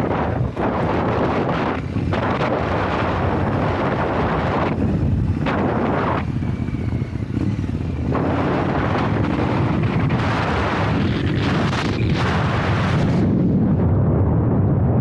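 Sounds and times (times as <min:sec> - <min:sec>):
motorcycle engine running: 0:00.0 - 0:13.8
wind buffeting microphone: 0:00.0 - 0:15.0.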